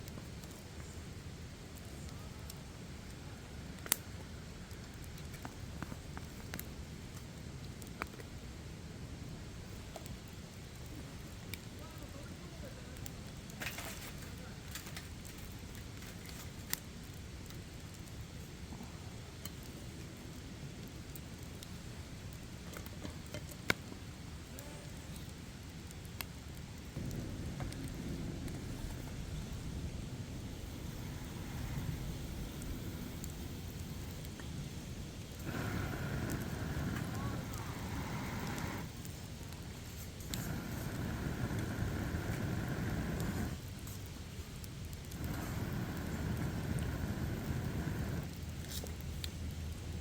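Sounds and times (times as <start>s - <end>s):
campfire crackling: 0.0s - 50.0s
low fire rumble: 0.0s - 50.0s.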